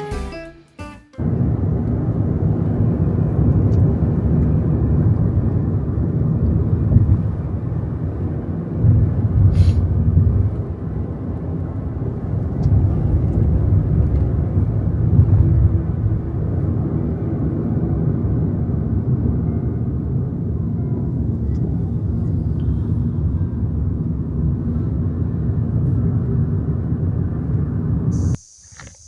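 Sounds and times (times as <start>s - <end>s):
car rumbling on the move: 1.2s - 29.0s.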